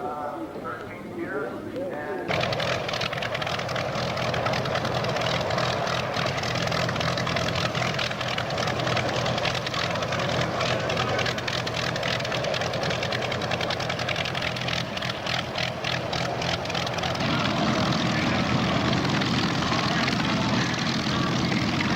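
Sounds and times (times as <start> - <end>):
piston aircraft engine running: 2.2 - 21.9.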